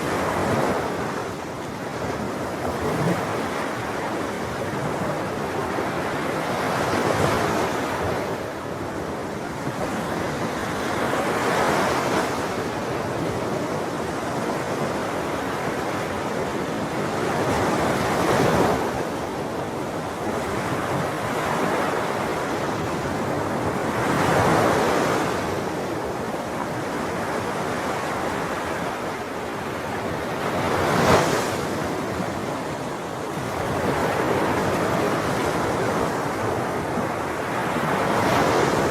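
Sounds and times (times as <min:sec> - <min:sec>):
sea waves breaking on shore: 0:00.0 - 0:38.9
steady wash of surf: 0:00.0 - 0:38.9.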